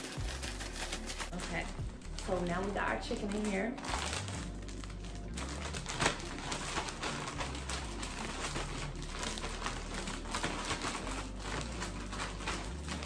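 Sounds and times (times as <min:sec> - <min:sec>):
crinkling and rustling: 0:00.0 - 0:13.0.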